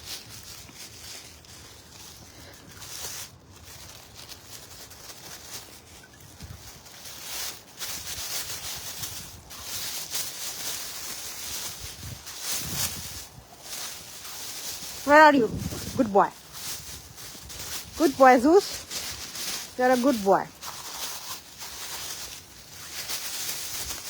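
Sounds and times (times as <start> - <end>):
footsteps crunching through snow: 0.0 - 24.0.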